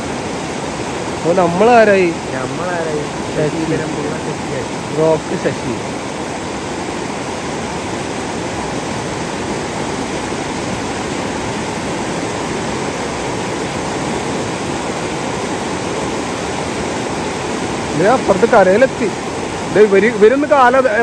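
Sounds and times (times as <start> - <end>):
fast-flowing river water: 0.0 - 21.0.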